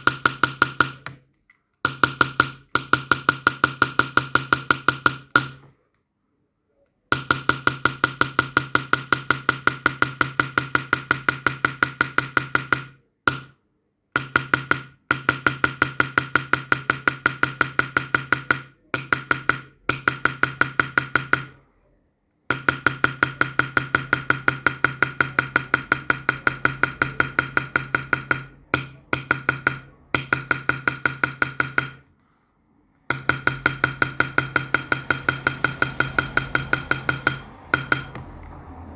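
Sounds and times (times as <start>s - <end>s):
small hammer tapping metal tool: 0.0s - 1.2s, 1.8s - 5.7s, 7.1s - 13.6s, 14.2s - 21.6s, 22.5s - 32.1s, 33.1s - 38.3s.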